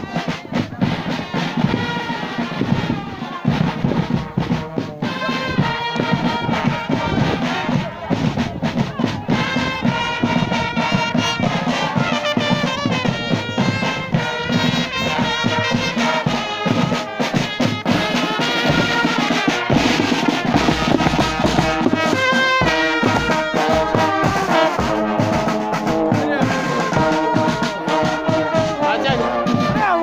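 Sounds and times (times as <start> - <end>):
bass and snare drum beats: 0.0 - 30.0
brass band playing a march: 0.0 - 30.0.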